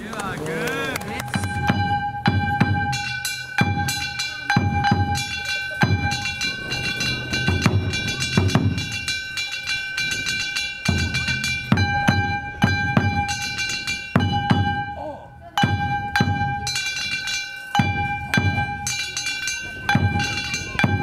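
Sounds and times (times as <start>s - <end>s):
taiko drum strokes: 1.2s - 21.0s.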